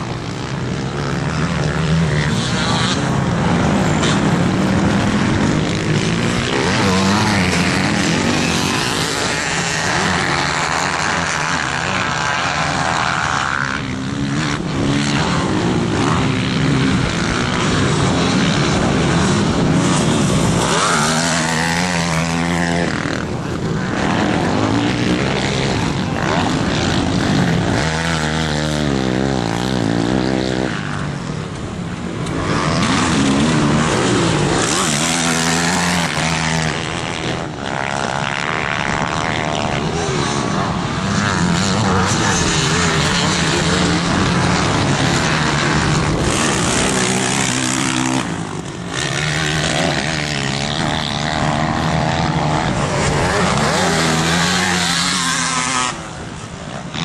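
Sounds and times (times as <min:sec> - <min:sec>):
dirt bike engines racing: 0:00.0 - 0:57.0.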